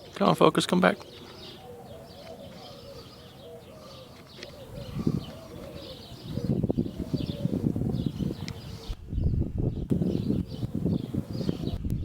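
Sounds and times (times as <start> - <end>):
small birds chirping faintly: 0.0 - 12.0
dove cooing: 0.8 - 9.0, 10.1 - 11.8.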